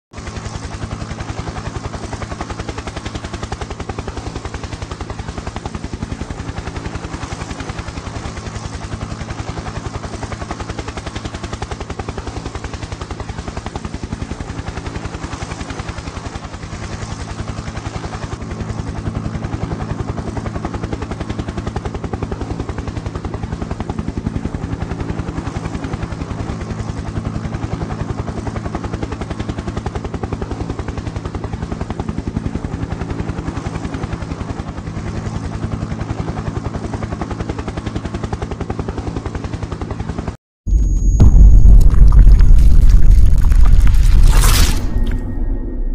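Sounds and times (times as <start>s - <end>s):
helicopter engine drone: 0.2s - 45.9s.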